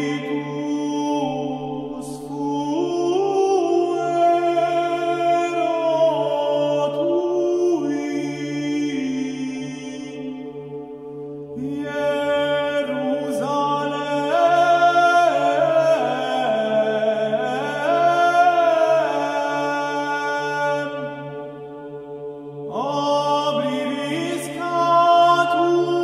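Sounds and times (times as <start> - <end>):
low vocal drone: 0.0 - 26.0
man singing chant melisma: 0.0 - 26.0.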